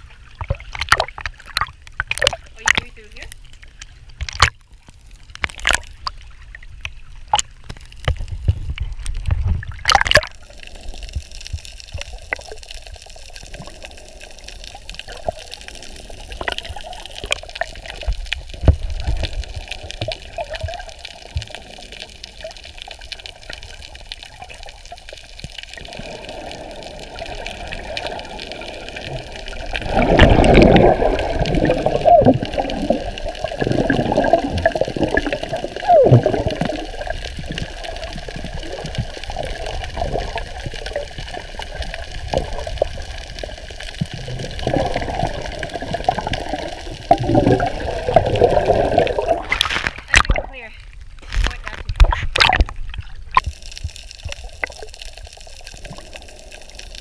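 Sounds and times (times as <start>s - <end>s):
sea water splashing: 0.0s - 57.0s.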